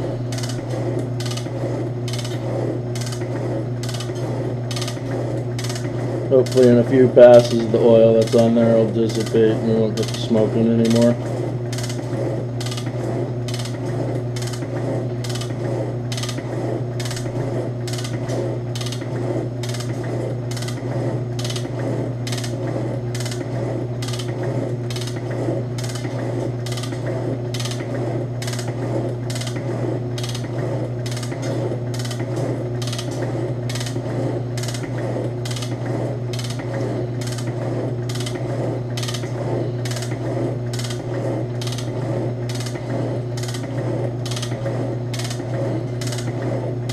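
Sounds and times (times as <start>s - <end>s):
motor hum: 0.0s - 46.9s.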